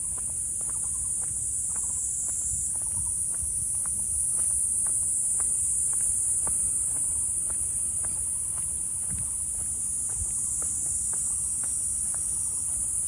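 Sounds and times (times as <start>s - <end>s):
insects droning: 0.0s - 13.0s
light irregular ticks: 0.0s - 13.0s.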